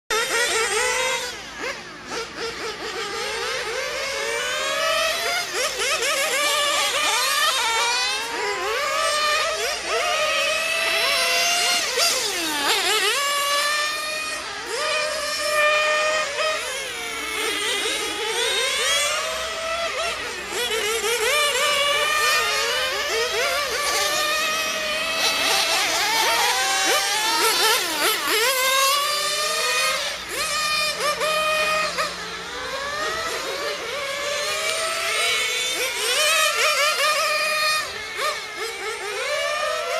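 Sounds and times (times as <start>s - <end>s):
model car motors whining: 0.1s - 39.9s.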